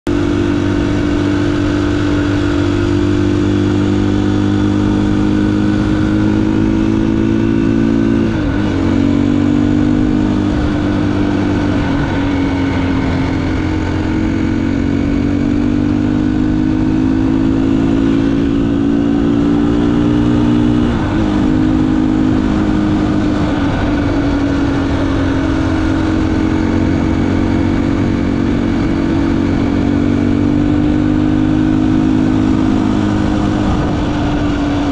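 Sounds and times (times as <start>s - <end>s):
vehicle engine running: 0.1s - 34.9s.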